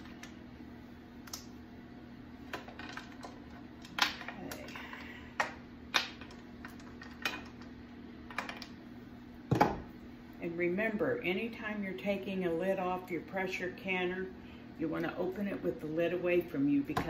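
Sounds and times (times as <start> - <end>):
food dehydrator humming: 0.0 - 17.0.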